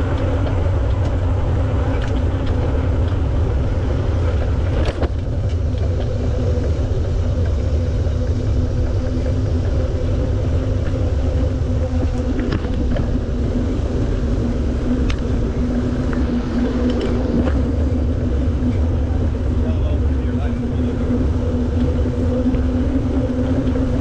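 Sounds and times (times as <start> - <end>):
bicycle tyres rolling: 0.0 - 24.0
wind buffeting microphone: 0.0 - 24.0.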